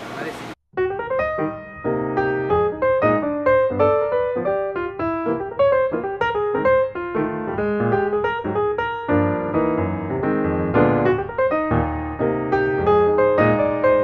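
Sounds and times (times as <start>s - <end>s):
piano background music: 0.8s - 14.0s.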